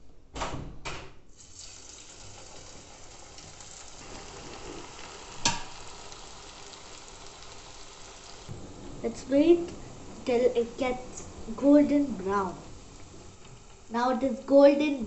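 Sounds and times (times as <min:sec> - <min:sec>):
oil sizzling while deep-frying: 0:01.3 - 0:15.0.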